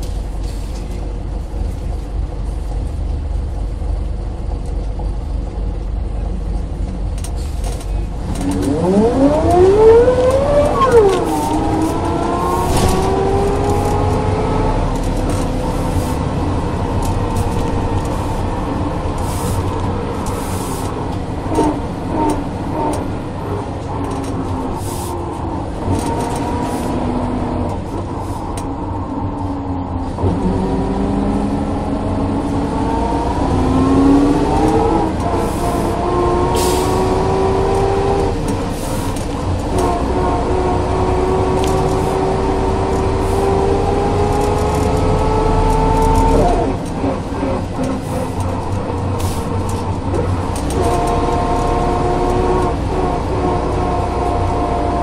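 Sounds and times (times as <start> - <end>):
bus gearbox whine: 0.0 - 29.5, 33.4 - 55.0
low engine rumble: 0.0 - 54.6.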